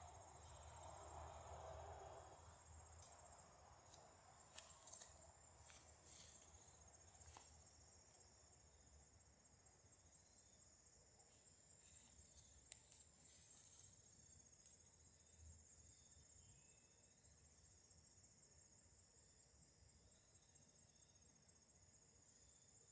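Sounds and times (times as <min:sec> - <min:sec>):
crickets trilling: 0:00.0 - 0:22.9.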